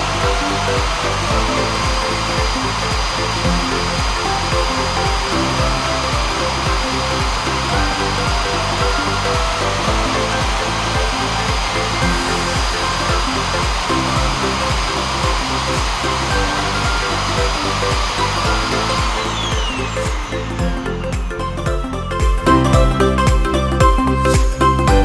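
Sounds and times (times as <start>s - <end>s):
music with steady beat: 0.0s - 25.0s.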